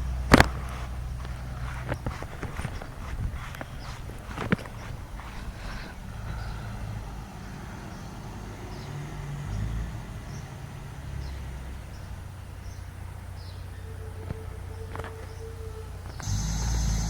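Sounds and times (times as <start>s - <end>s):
garbage truck engine rumbling: 0.0s - 17.0s.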